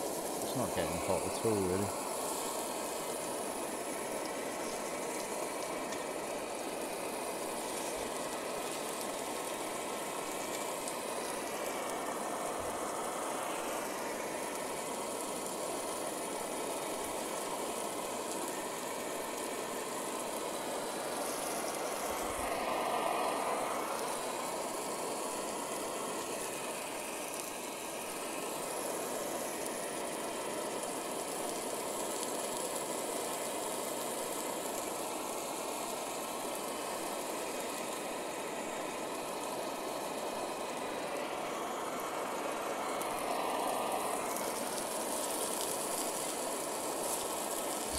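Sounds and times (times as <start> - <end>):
steak sizzling in frying pan: 0.0 - 47.9
stove burner roaring: 0.0 - 47.9.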